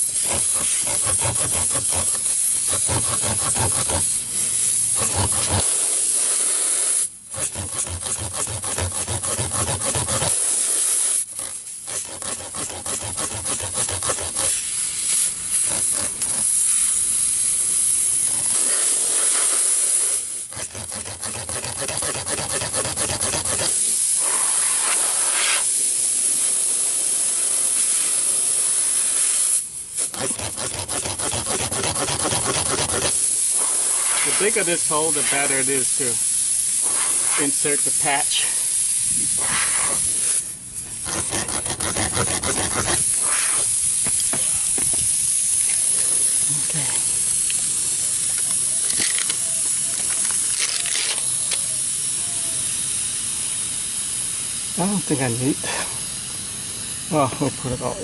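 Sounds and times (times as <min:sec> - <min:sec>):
reaming tool rasping in tire: 0:00.0 - 0:58.0.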